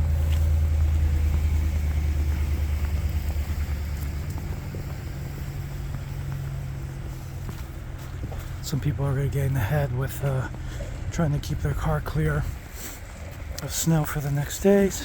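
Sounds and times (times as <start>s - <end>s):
car engine rumble: 0.0s - 15.0s
faint city street noise: 0.0s - 15.0s.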